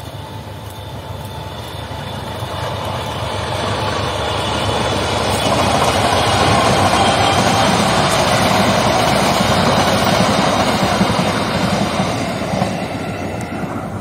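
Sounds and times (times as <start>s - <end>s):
train coaches rolling on rails: 0.0s - 14.0s.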